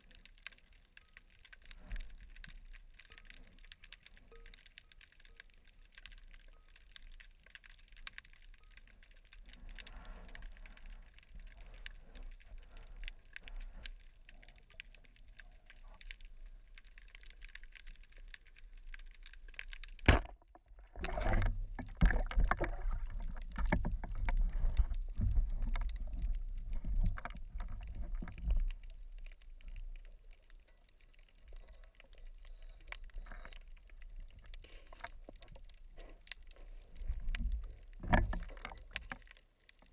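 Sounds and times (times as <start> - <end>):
faint underwater clicks: 0.0 - 39.9
low churning water: 0.0 - 39.9.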